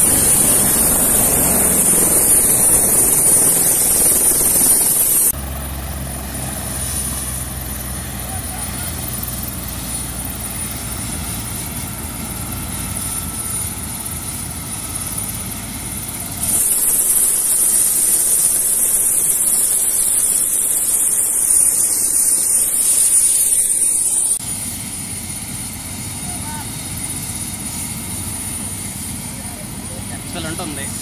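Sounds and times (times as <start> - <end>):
helicopter engine and rotor rush: 0.0 - 31.0
high whine: 0.0 - 31.0.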